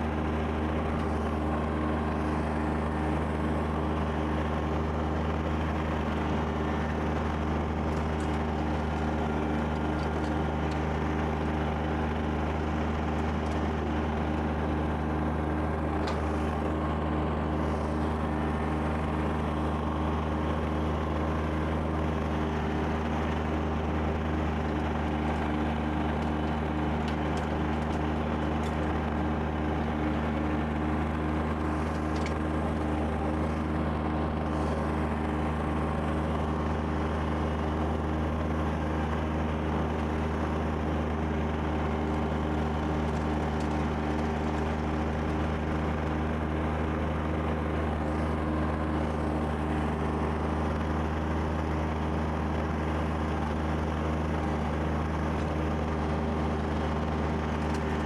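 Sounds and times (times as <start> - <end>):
snow blower running: 0.0 - 58.0
tractor diesel engine running: 0.0 - 58.0.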